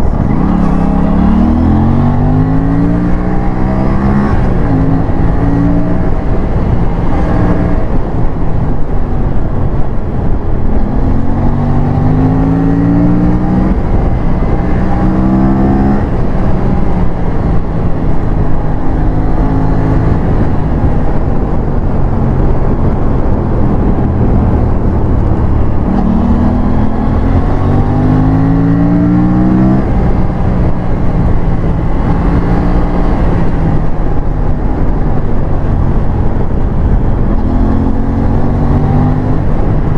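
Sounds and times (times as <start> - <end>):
motorcycle engine revving: 0.0 - 8.4, 10.7 - 39.9.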